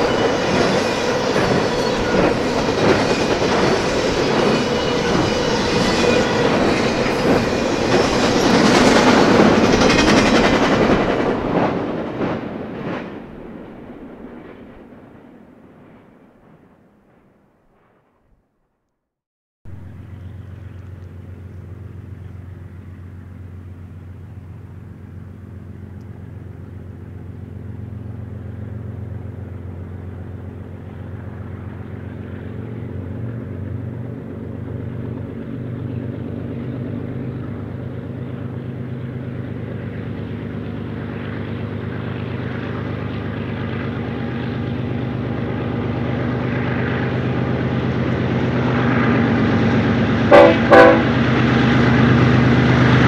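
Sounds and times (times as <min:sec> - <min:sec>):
diesel locomotive engine drone: 0:00.0 - 0:18.1, 0:19.7 - 0:53.0.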